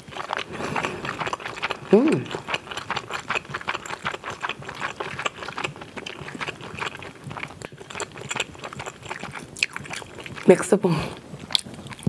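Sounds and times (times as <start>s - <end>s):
close chewing with mouth clicks: 0.0s - 12.0s.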